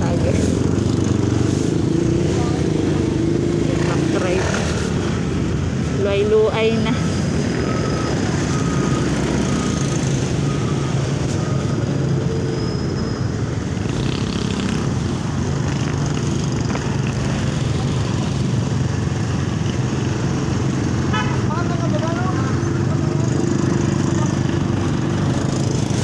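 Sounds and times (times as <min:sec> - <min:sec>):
surrounding traffic noise: 0:00.0 - 0:26.0.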